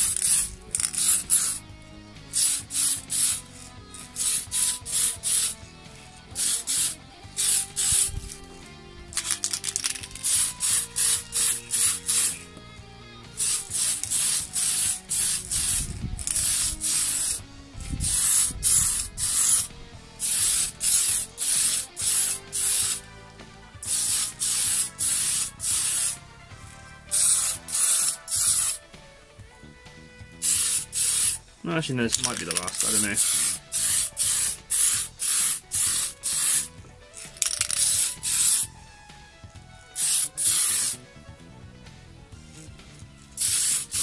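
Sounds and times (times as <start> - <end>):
spray paint can hissing: 0.0 - 1.6, 2.3 - 12.6, 13.3 - 23.1, 23.8 - 26.2, 27.1 - 28.8, 30.4 - 31.4, 32.1 - 38.7, 39.9 - 41.0, 43.2 - 44.0.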